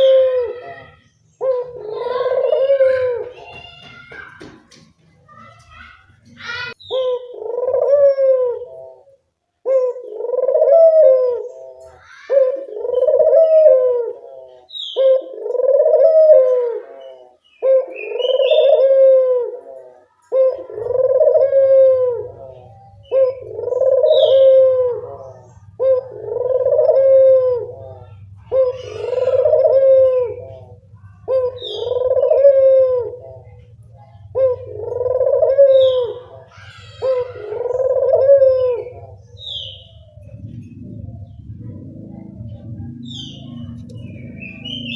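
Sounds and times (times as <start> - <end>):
dove cooing: 0.0 - 4.0, 6.7 - 44.9
low steady hum: 5.0 - 44.9.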